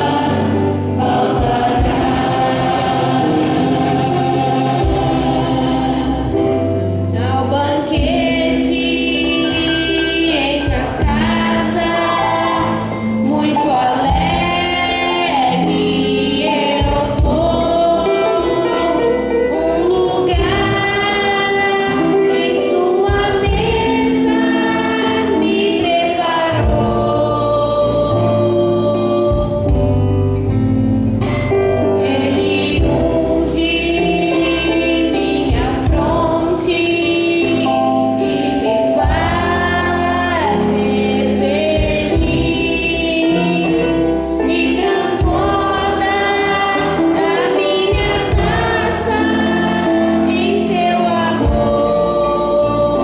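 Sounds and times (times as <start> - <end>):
boy singing a church song: 0.0 - 6.4, 7.2 - 29.8, 32.0 - 53.0
instrumental accompaniment: 0.0 - 53.0.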